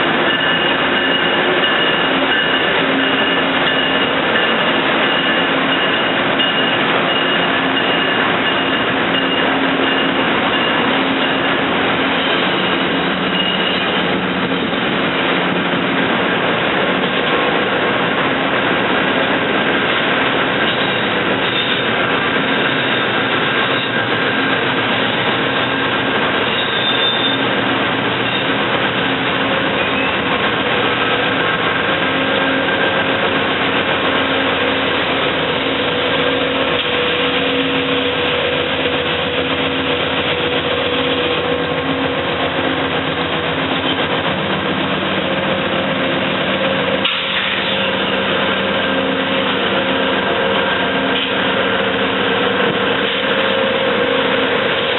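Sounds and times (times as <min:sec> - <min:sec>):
train mechanical drone: 0:00.0 - 0:54.9.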